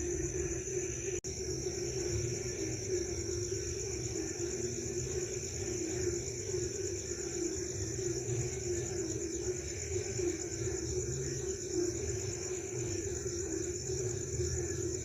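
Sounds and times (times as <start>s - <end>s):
frogs croaking: 0.0s - 15.0s
high insect trill: 0.0s - 15.0s.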